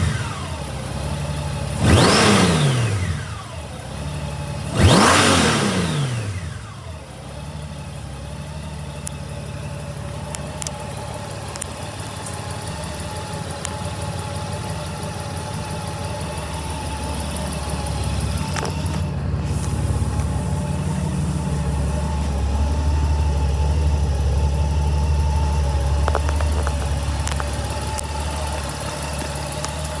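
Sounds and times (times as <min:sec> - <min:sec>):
motorcycle engine revving and idling: 0:00.0 - 0:30.0.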